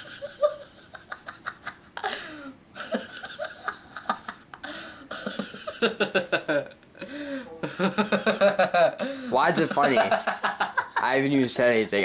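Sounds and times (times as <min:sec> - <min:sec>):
person laughing and giggling: 0:00.0 - 0:11.0.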